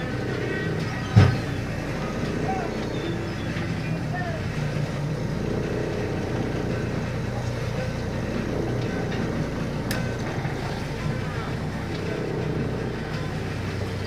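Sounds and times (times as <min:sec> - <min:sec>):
boat engine running: 0:00.0 - 0:14.0
wind: 0:00.0 - 0:14.0.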